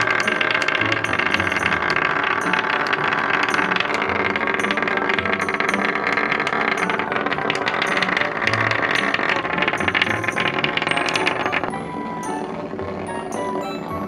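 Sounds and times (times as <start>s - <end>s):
vibrating toy rattling on wood: 0.0s - 14.0s.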